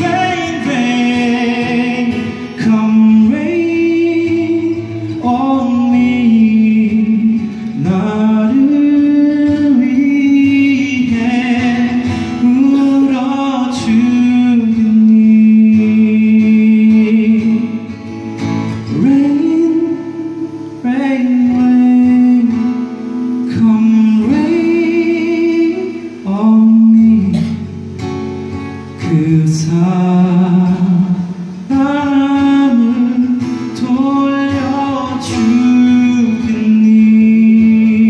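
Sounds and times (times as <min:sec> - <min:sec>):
man singing a slow ballad: 0:00.0 - 0:28.2, 0:28.8 - 0:38.0
strummed acoustic guitar: 0:00.0 - 0:38.0.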